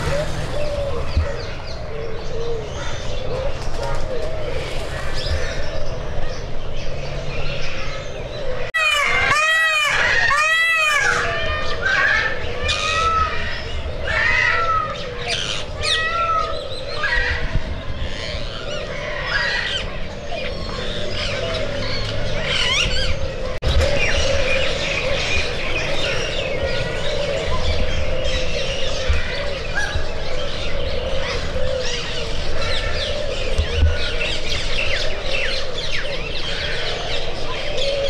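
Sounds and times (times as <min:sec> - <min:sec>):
small birds chirping and squawking: 0:00.0 - 0:38.0.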